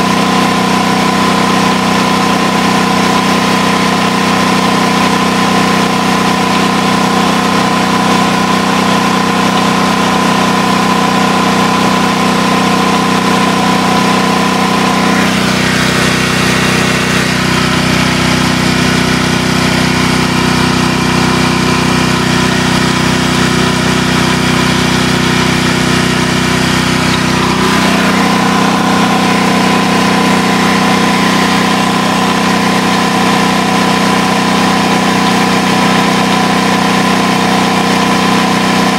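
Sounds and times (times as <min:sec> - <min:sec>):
generator engine drone: 0:00.0 - 0:38.9.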